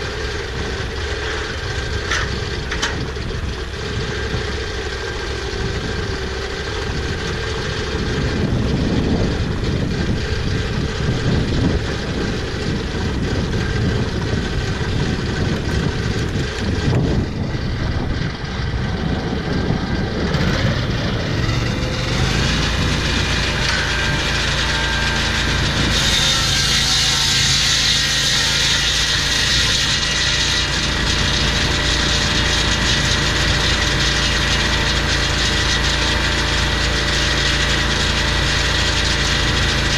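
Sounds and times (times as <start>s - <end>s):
saw blade cutting log: 0.0s - 17.3s, 20.3s - 39.9s
petrol engine running: 0.0s - 39.9s.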